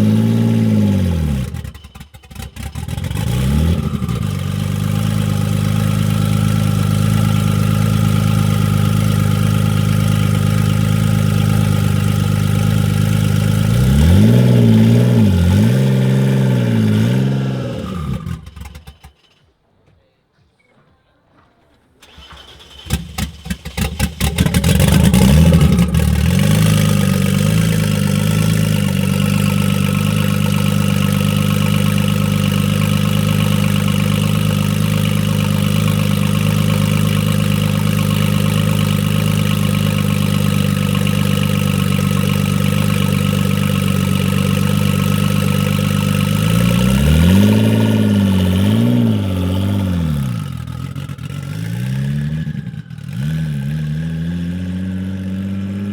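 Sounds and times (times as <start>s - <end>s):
engine revving: 0.0s - 19.1s, 22.0s - 55.9s
car engine starting and idling: 0.0s - 19.5s, 21.8s - 55.9s.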